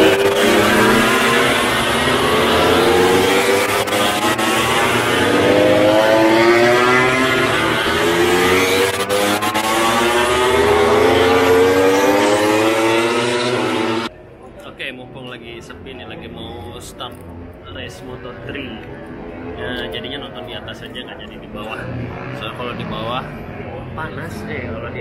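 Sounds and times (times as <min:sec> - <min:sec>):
racing motorcycles accelerating: 0:00.0 - 0:14.1, 0:17.3 - 0:25.0.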